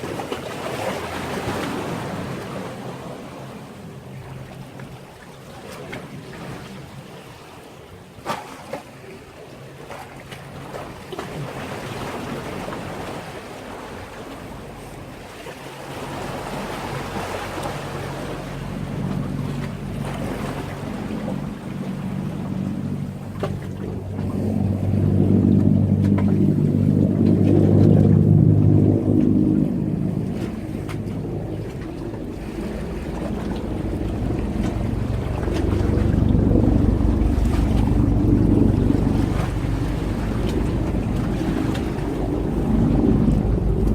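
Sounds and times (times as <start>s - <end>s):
boat engine drone: 0.0s - 43.9s
sea waves washing against breakwater: 0.0s - 43.9s.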